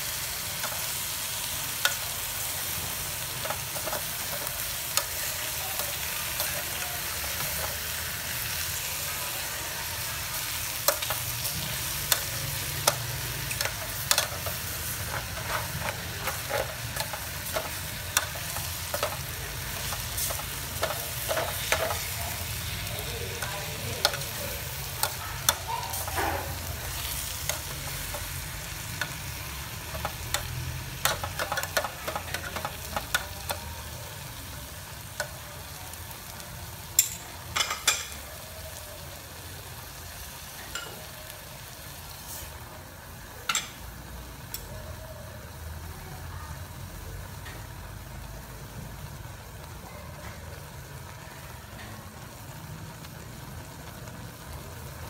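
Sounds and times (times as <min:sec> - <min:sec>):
mushrooms sizzling in pot: 0:00.0 - 0:55.0.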